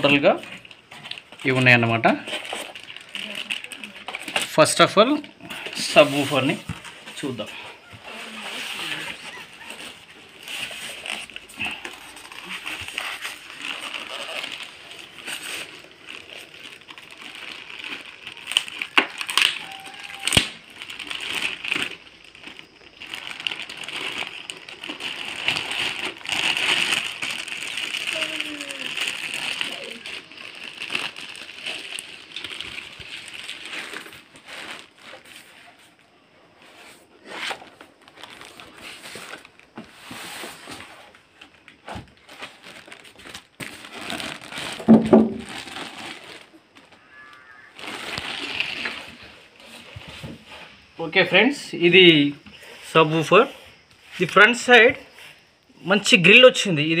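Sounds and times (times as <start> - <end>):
plastic bag crinkling: 0.0 - 36.0, 36.6 - 51.0.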